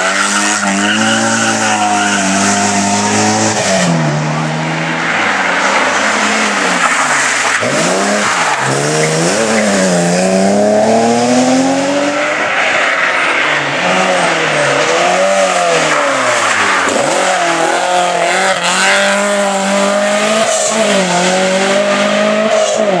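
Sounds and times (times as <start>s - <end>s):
rally car engines revving: 0.0s - 23.0s.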